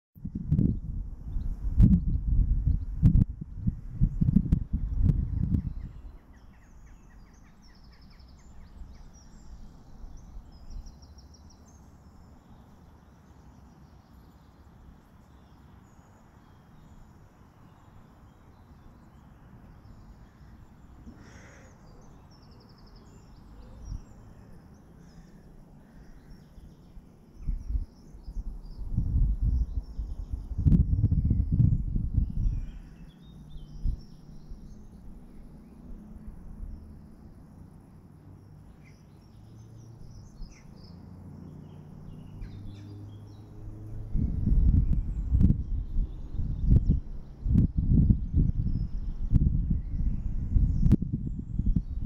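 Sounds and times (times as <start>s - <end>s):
steady low background noise: 0.8s - 52.0s
small birds chirping: 4.0s - 52.0s.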